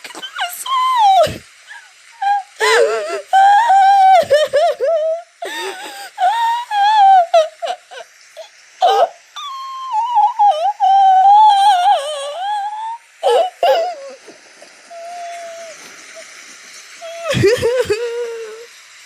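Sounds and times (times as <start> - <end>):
child wailing: 0.1 - 16.2, 17.0 - 18.7.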